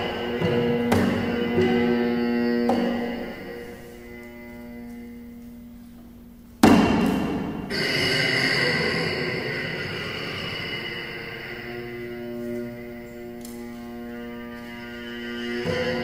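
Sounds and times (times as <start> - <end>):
amplified cello notes: 0.0 - 16.0.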